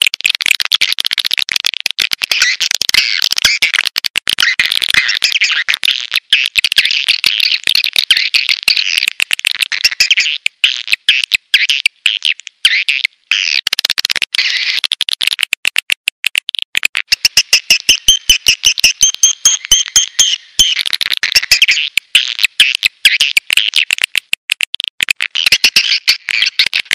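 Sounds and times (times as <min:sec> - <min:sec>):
rapid sharp clicks: 0:00.0 - 0:12.6, 0:13.6 - 0:26.9.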